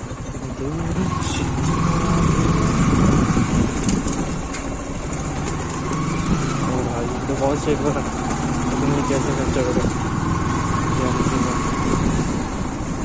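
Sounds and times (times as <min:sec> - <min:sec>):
motorcycle engine running: 0:00.0 - 0:13.0
road traffic: 0:00.0 - 0:13.0.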